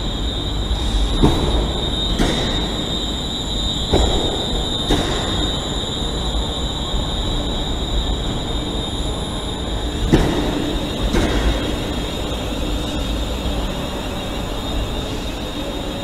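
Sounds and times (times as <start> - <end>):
electric train rumbling and whining: 0.0 - 16.0.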